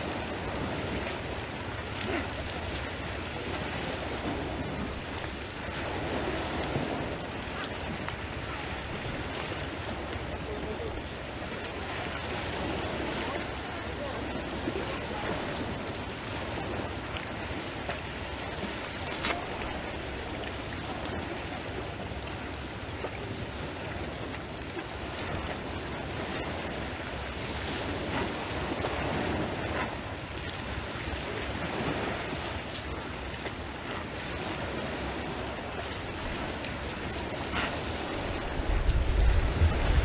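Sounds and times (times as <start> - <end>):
small waves on pebbles: 0.0 - 40.0
wind buffeting microphone: 0.0 - 40.0.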